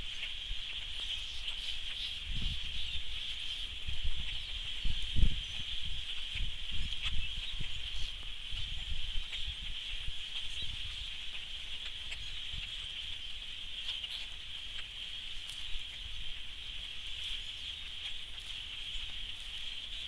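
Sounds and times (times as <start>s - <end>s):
flock of birds calling: 0.0s - 20.0s.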